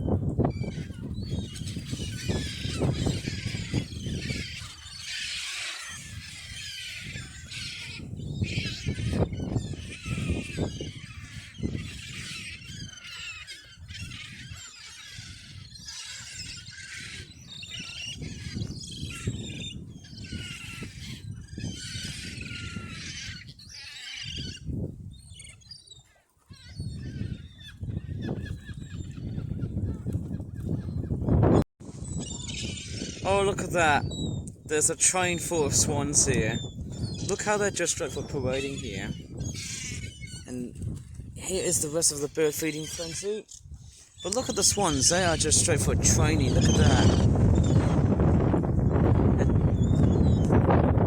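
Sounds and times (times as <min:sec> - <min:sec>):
wind rumbling on microphone: 0:00.0 - 0:25.8, 0:26.5 - 0:51.0
waterbirds calling shrilly: 0:00.0 - 0:31.1, 0:32.0 - 0:51.0.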